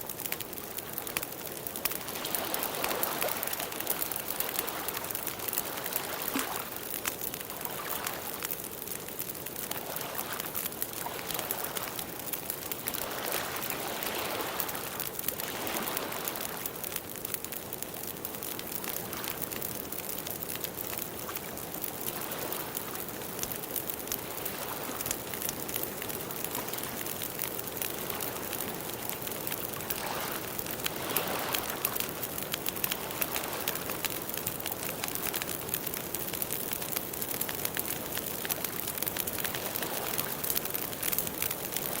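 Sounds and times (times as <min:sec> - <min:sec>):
campfire crackling and popping: 0:00.0 - 0:42.0.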